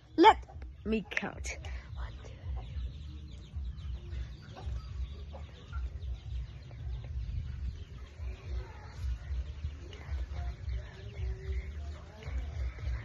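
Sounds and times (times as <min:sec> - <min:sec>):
poultry calling: 0:00.0 - 0:13.0
steady low rumble: 0:00.0 - 0:13.0.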